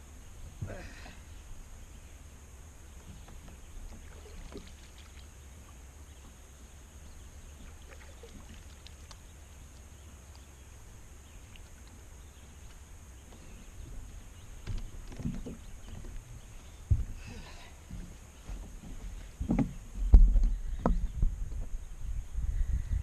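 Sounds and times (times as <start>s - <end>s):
boat engine low rumble: 0.0s - 23.0s.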